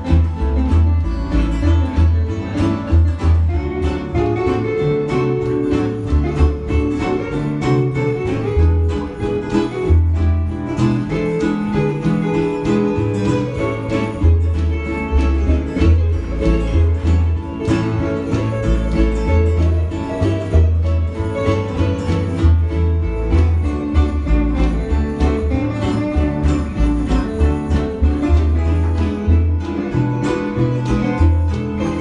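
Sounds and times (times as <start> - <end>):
bass line: 0.0 - 32.0
electric guitars: 0.0 - 32.0
live band playing: 0.0 - 32.0.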